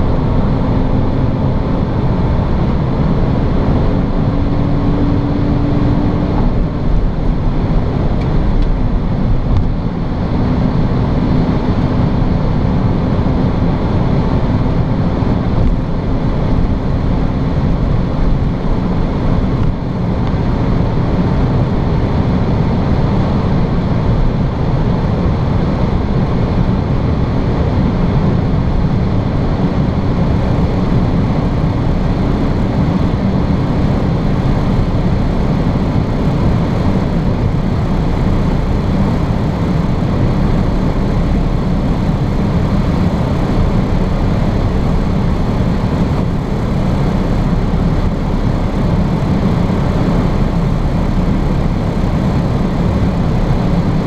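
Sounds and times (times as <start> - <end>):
car engine drone: 0.0 - 54.0
wind and tyre noise: 0.0 - 54.0.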